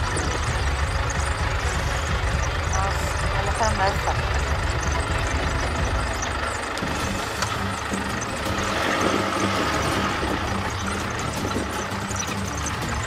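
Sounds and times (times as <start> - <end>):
low hum: 0.0 - 13.0
vehicle engine idling: 0.0 - 13.0.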